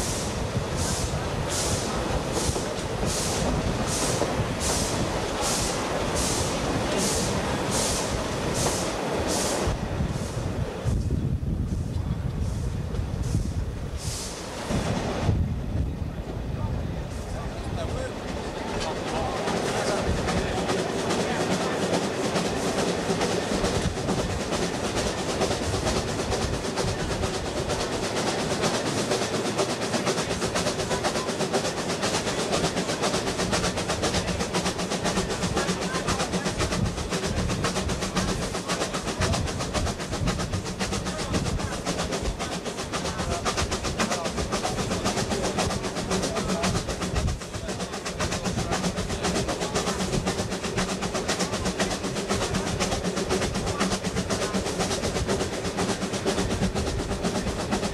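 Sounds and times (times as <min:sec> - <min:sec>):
steam locomotive running: 0:00.0 - 0:57.9.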